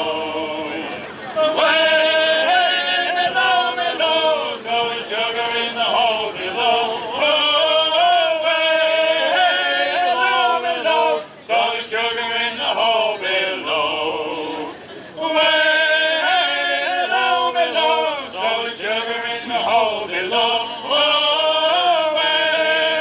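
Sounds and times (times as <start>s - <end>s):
men singing in chorus: 0.0s - 23.0s.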